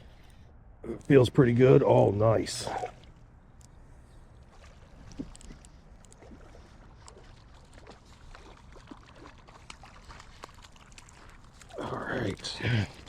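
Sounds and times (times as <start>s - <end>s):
light water splashing: 1.0s - 13.0s.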